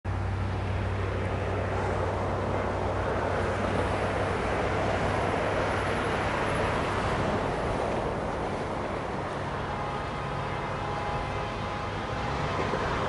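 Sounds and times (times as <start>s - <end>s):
distant diesel locomotive rumble: 0.1s - 13.0s
wind-like noise: 0.1s - 13.0s.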